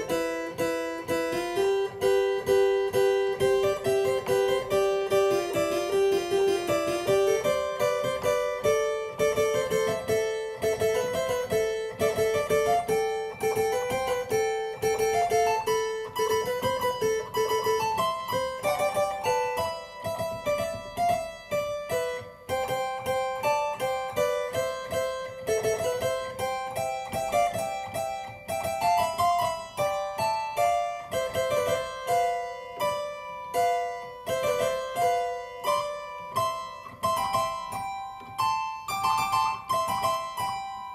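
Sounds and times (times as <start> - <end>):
harpsichord melody: 0.0 - 40.9.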